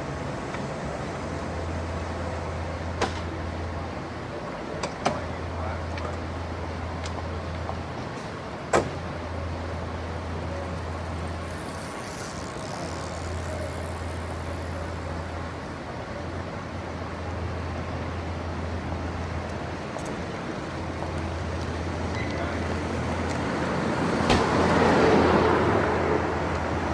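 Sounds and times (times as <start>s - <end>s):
low traffic rumble: 0.0s - 26.9s.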